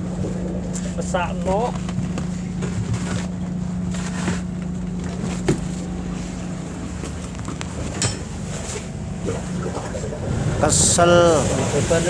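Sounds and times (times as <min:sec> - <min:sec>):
boat machinery humming: 0:00.0 - 0:12.0.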